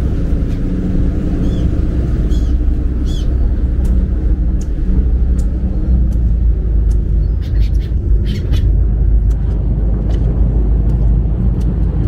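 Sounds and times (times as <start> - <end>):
ferry engine rumbling: 0.0 - 12.0.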